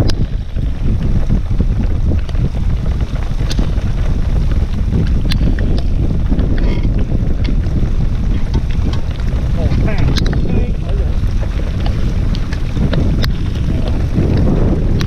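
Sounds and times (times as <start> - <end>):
rain ticking on camera: 0.0 - 15.0
wind buffeting microphone: 0.0 - 15.0.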